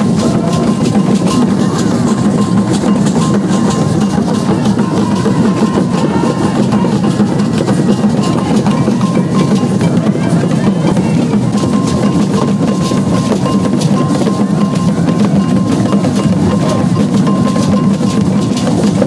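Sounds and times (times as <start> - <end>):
wooden barrel drums rhythm: 0.0 - 19.0.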